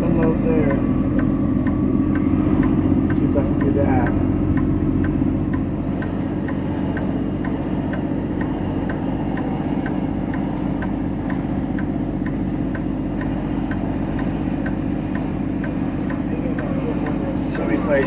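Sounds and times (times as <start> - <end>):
light regular ticking: 0.0 - 18.0
truck diesel engine running: 0.0 - 18.0.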